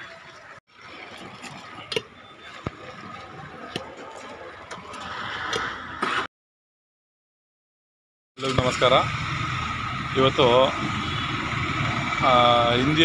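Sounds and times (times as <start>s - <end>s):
street background noise: 0.0s - 6.3s, 8.4s - 13.0s.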